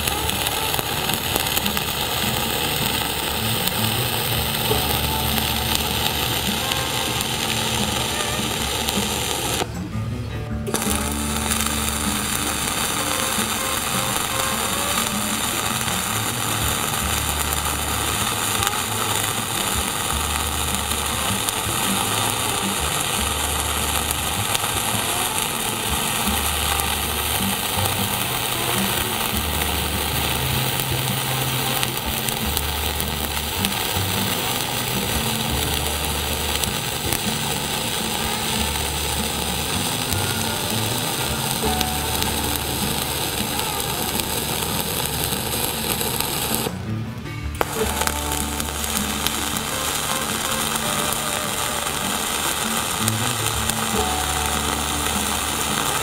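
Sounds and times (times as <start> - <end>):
welding arc hissing: 0.0 - 9.9, 10.6 - 56.0.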